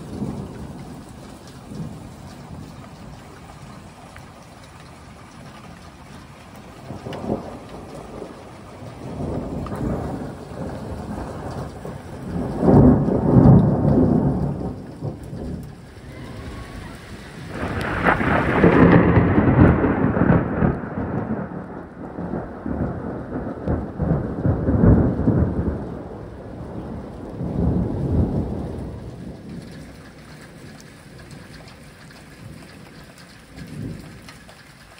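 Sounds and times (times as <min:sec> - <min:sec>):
thunder rolling: 0:00.0 - 0:34.6
hard rain hissing: 0:00.0 - 0:34.9.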